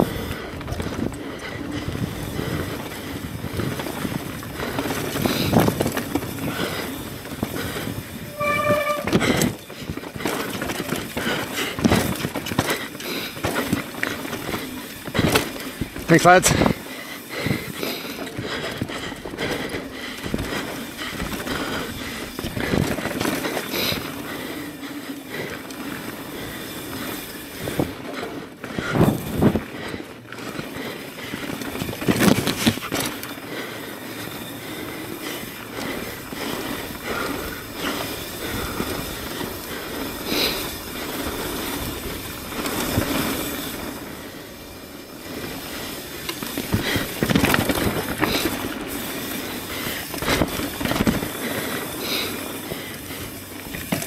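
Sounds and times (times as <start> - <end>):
bike rolling and rattling on dirt: 0.0 - 54.0.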